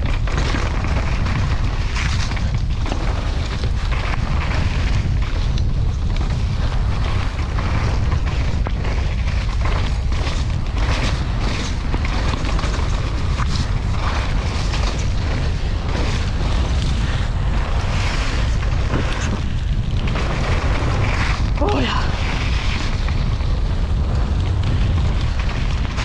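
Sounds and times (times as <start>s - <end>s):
bike rattling over rough ground: 0.0s - 26.0s
wind buffeting microphone: 0.0s - 26.0s.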